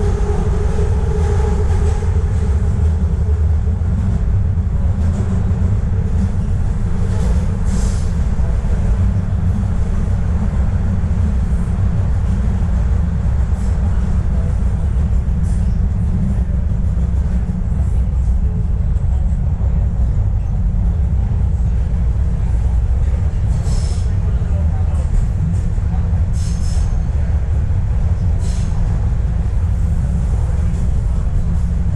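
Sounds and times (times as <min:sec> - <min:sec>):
subway train rumbling: 0:00.0 - 0:31.9.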